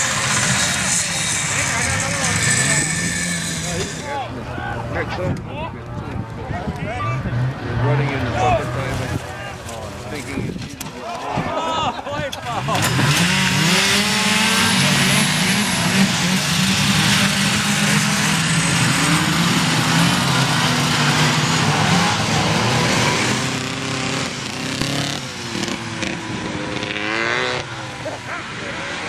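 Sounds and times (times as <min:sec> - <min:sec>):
snowmobile engines revving: 0:00.0 - 0:29.0.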